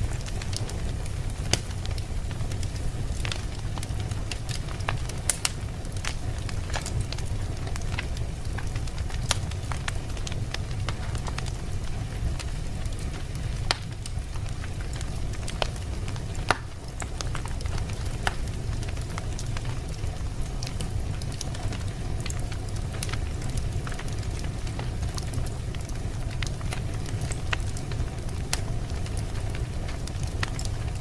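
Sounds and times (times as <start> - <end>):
fire pops: 0.0 - 31.0
low fire rumble: 0.0 - 31.0
wood fire crackling: 0.0 - 31.0.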